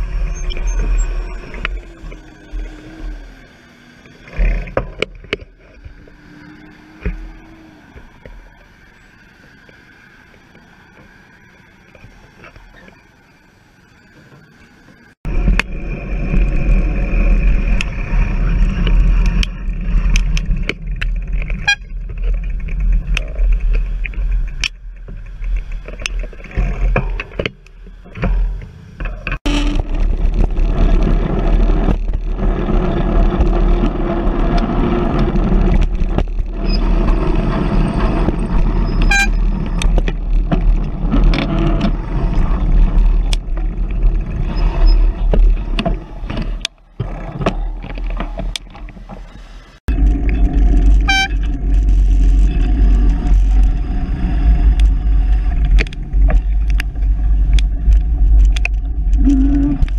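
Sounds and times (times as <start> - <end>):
steady low rumble: 0.0 - 9.4, 15.1 - 59.9
road traffic passing: 0.0 - 59.9.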